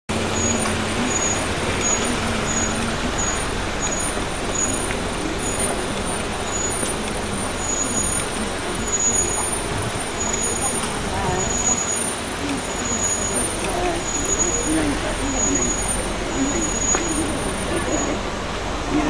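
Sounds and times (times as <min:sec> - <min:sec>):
engine drone: 0:00.1 - 0:19.0
street traffic hum: 0:00.1 - 0:19.0
faint high-pitched peeps: 0:00.2 - 0:18.3.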